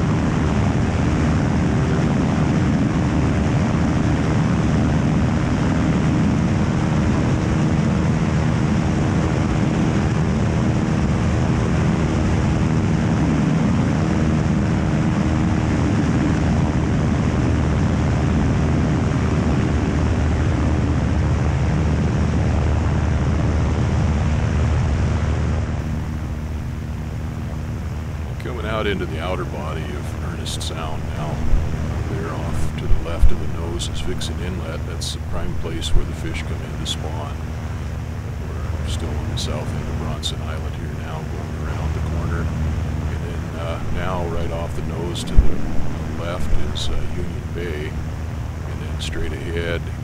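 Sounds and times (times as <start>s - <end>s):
airplane engine and propeller: 0.0s - 50.0s.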